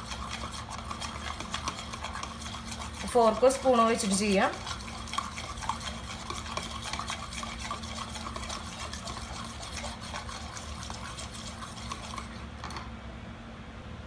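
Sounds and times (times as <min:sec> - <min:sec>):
egg sloshing: 0:00.0 - 0:12.8.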